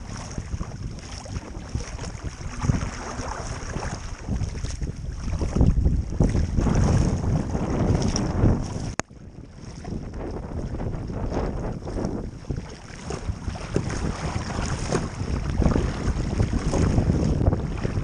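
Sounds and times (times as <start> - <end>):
gusty wind buffeting microphone: 0.0 - 18.0
rushing choppy water: 0.0 - 18.0.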